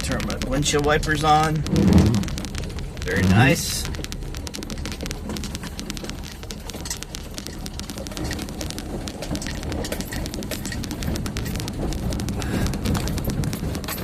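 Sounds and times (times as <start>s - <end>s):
rain pattering on windshield: 0.0s - 14.0s
steady low rumble: 0.0s - 14.0s.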